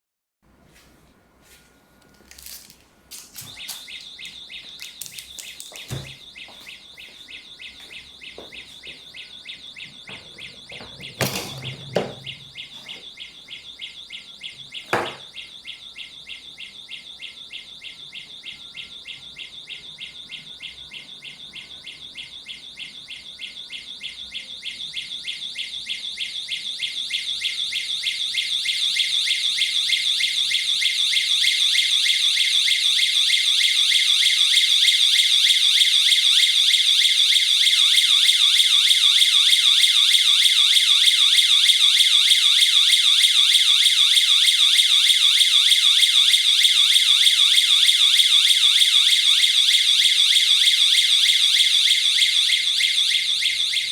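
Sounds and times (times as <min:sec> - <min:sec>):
alarm siren pulsing beep: 0:03.3 - 0:53.9.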